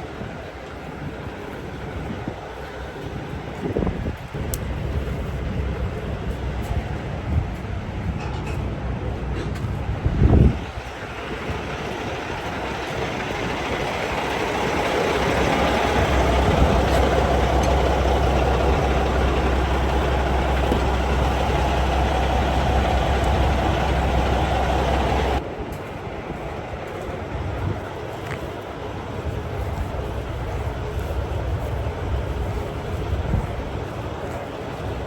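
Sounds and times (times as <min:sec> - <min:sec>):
heavy vehicle engine running: 0:00.0 - 0:35.0.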